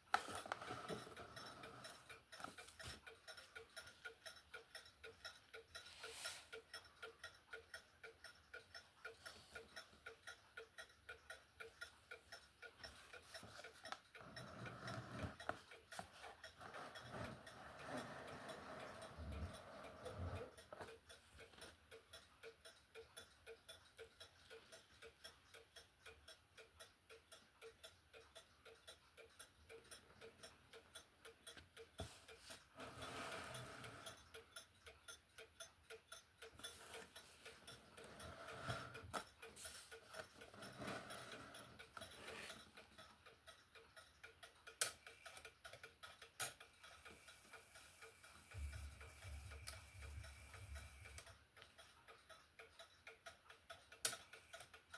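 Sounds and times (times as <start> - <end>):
clock ticking: 0.0 - 54.9.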